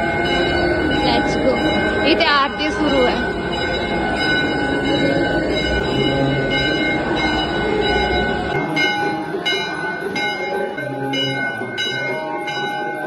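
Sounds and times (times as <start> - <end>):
temple bells ringing: 0.0 - 13.0.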